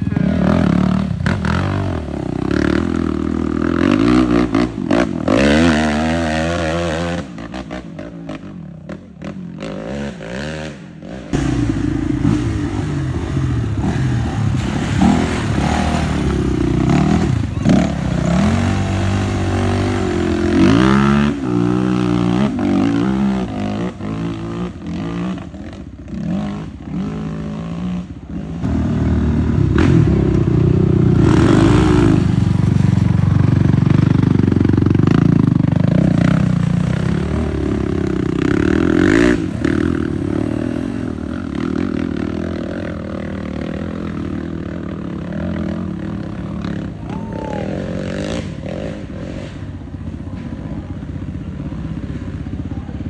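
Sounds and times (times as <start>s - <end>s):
atv engines revving: 0.0s - 53.0s.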